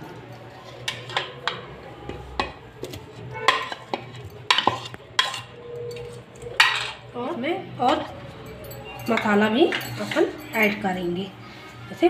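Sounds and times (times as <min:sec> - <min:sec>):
spoon scraping and knocking bowls: 0:00.4 - 0:07.1, 0:07.8 - 0:10.8.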